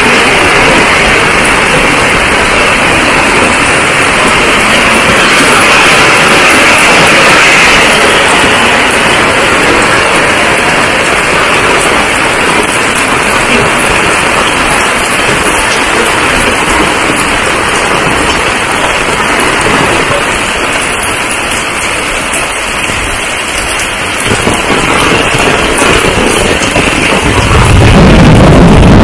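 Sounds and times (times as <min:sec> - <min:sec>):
heavy rain on a paved street: 0:00.0 - 0:29.0.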